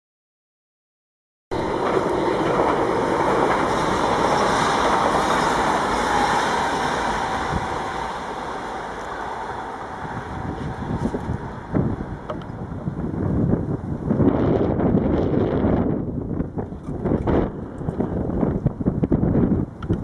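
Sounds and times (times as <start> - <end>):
train running on tracks: 1.5 - 20.0
wind buffeting microphone: 1.6 - 20.0.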